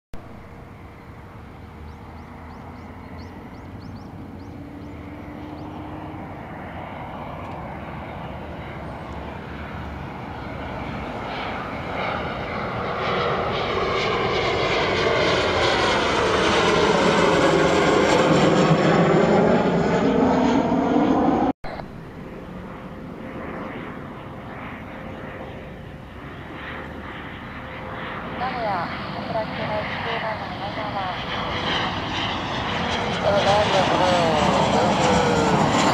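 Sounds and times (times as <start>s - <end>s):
jet engines approaching: 0.2s - 35.9s.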